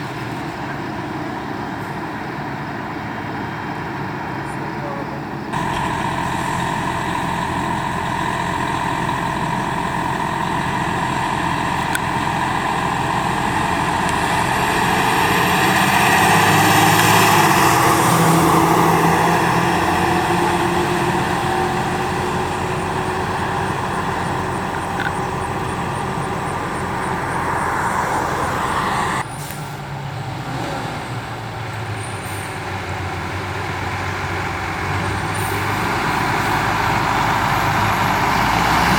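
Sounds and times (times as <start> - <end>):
fire truck driving past: 0.0 - 38.9.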